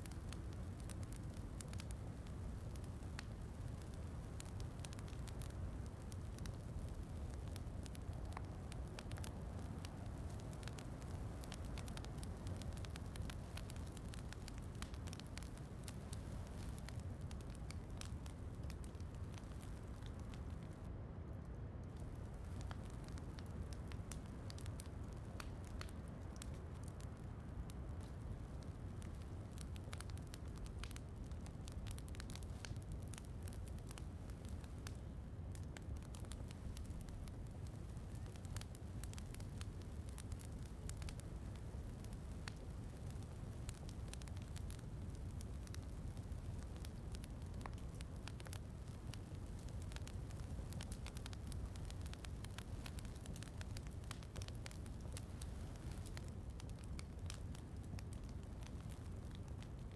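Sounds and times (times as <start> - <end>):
fireplace crackling: 0.0 - 59.9.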